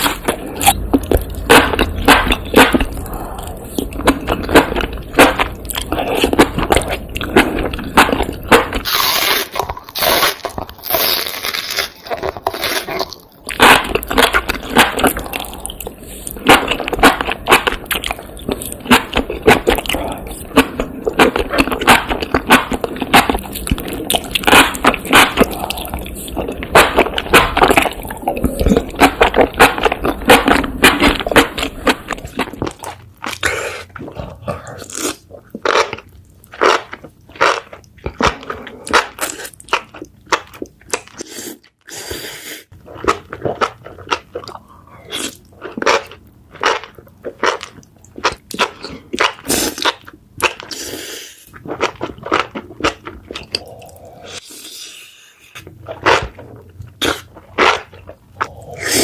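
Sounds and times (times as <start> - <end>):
crunchy chewing: 0.0 - 41.8, 42.8 - 59.0.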